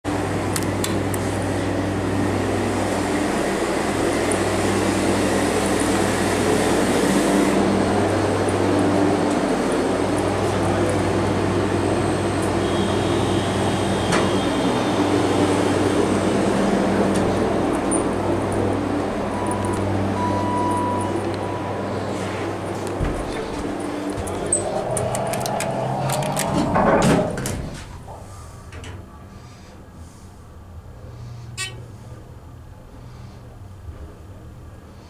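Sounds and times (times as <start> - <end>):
low buzzing machine hum: 0.1 - 35.0.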